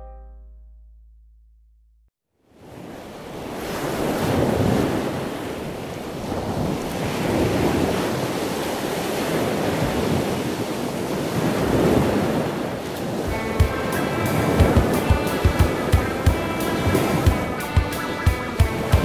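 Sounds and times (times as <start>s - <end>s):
ocean surf crashing: 2.6s - 19.0s
wind on microphone: 2.6s - 19.0s.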